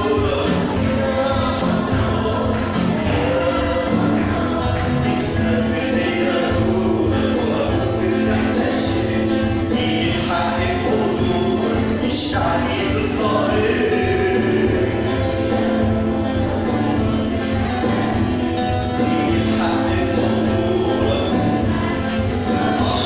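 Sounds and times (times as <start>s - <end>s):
man singing a hymn: 0.0s - 16.5s, 18.6s - 23.0s
instrumental accompaniment: 0.0s - 23.0s
vocal group singing: 0.0s - 23.0s.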